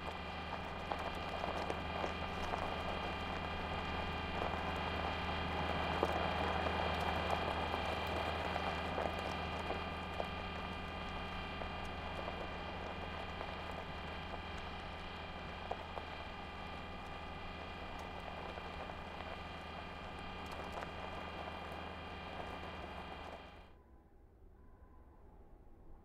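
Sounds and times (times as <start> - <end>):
wheels crunching on gravel: 0.0 - 23.7
steady motor hum: 0.0 - 23.8.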